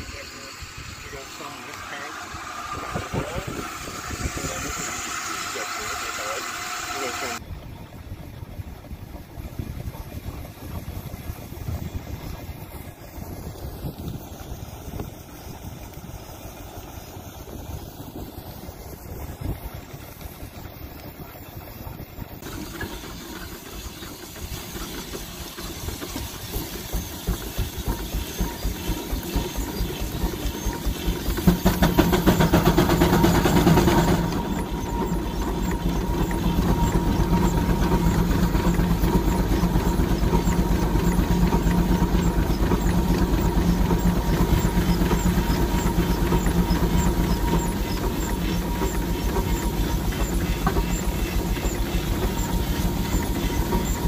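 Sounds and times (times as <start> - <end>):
steam engine chuffing with hiss: 0.0 - 7.7, 8.3 - 54.0.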